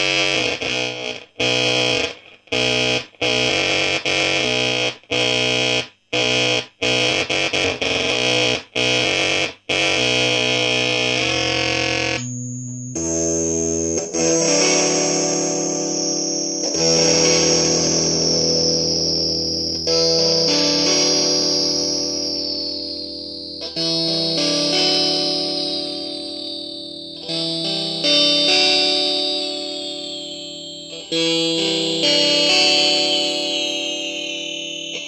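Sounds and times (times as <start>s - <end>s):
stuttering fuzz electric guitar: 0.0s - 12.3s, 13.0s - 35.0s.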